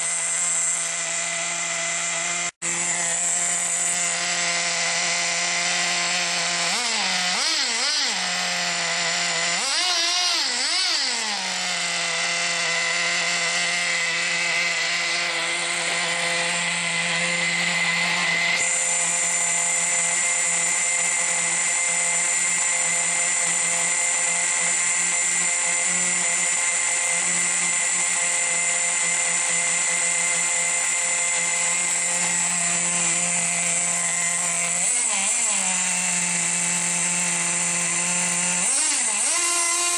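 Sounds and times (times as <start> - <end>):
model truck engine revving: 0.0 - 39.9.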